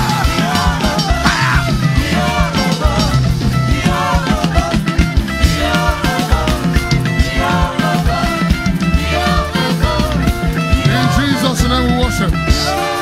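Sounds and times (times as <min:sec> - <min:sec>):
driving drum beat: 0:00.0 - 0:13.0
heavy bass: 0:00.0 - 0:13.0
live praise band music: 0:00.0 - 0:13.0.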